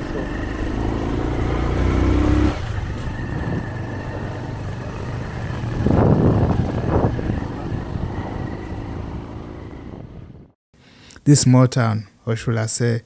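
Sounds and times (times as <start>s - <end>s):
motorbike engine rumbling: 0.0s - 10.6s.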